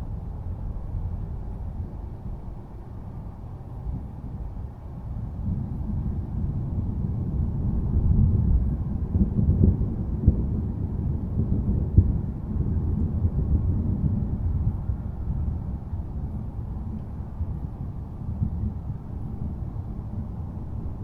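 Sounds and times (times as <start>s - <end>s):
thunder rumble: 0.0s - 21.0s.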